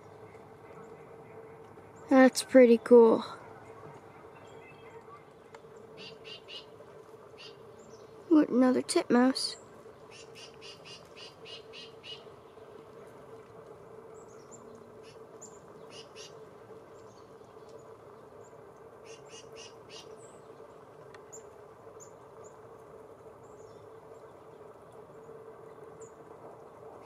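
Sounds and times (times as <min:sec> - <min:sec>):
faint steady hum: 0:00.0 - 0:27.0
songbirds chirping: 0:00.0 - 0:27.0.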